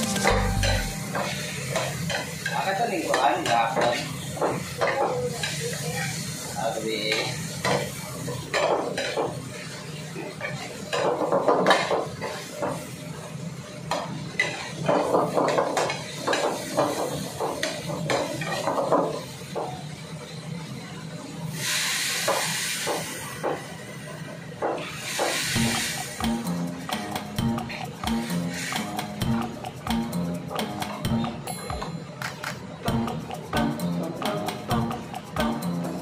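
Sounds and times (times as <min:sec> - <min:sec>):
liquid sizzling in hot wok: 0:00.0 - 0:31.7.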